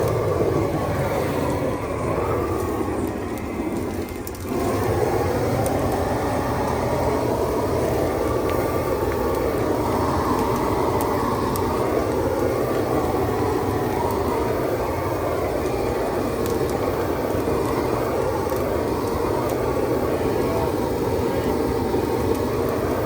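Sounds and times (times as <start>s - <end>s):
bonfire rushing: 0.0s - 23.0s
fire popping: 0.0s - 23.0s.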